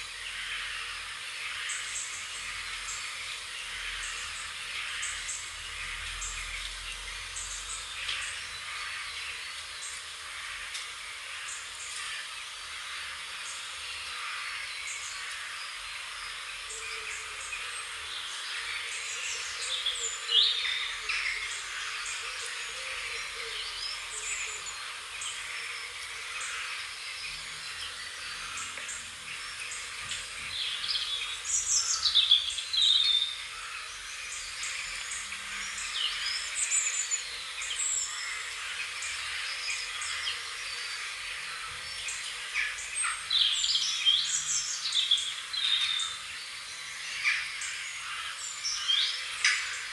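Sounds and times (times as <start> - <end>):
songbirds chirping and singing: 0.0 - 49.9
steady background hiss: 0.0 - 49.9.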